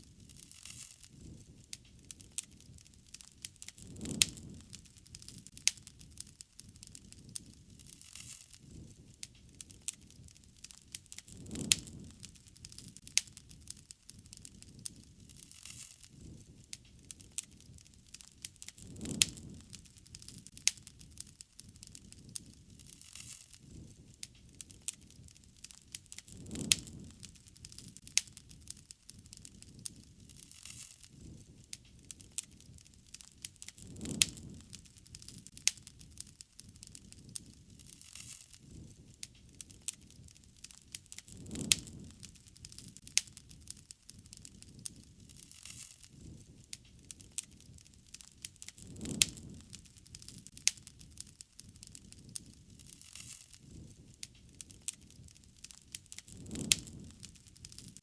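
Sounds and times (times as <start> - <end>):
low rush of flame: 0.0 - 58.0
wood fire crackling: 0.0 - 58.0.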